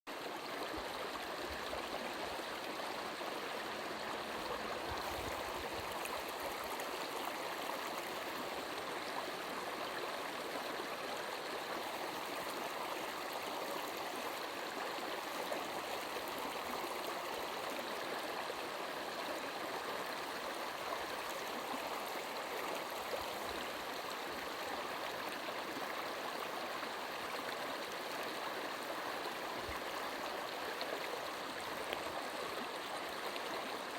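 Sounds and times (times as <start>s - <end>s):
brook water babbling over stones: 0.1s - 33.9s.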